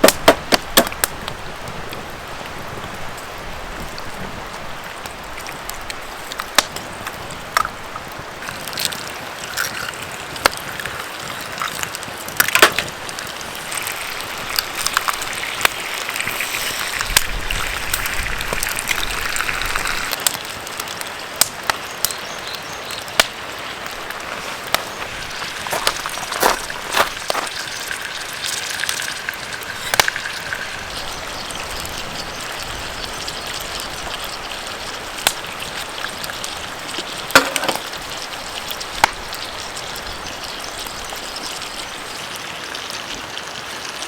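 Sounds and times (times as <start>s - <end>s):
food sizzling in a frying pan: 6.0s - 44.0s.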